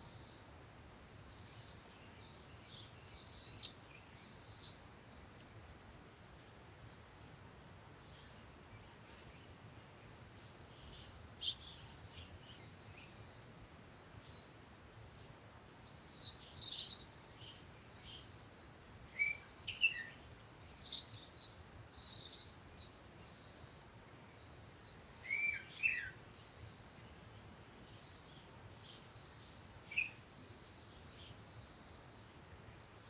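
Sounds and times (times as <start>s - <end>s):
small birds chirping: 0.0s - 5.6s, 7.9s - 15.0s, 15.8s - 33.0s.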